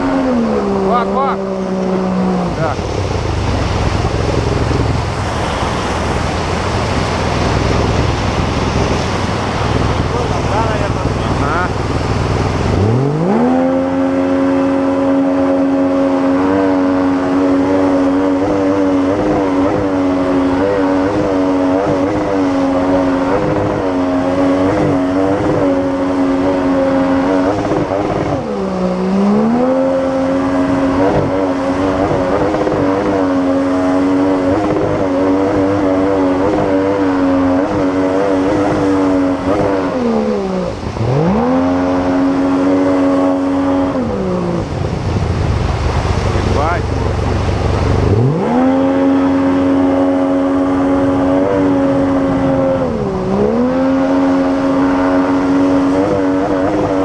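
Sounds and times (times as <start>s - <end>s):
outboard engine at high revs: 0.0s - 57.0s
river rapids rushing: 0.0s - 57.0s.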